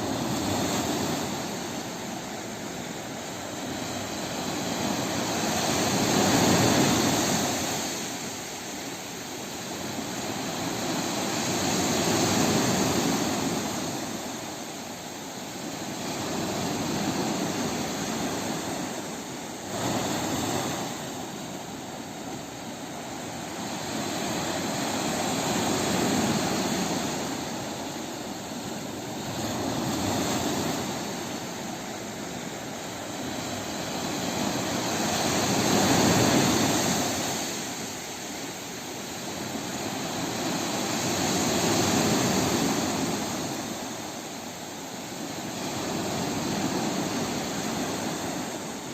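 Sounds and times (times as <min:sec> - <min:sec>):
sea waves washing ashore: 0:00.0 - 0:48.9.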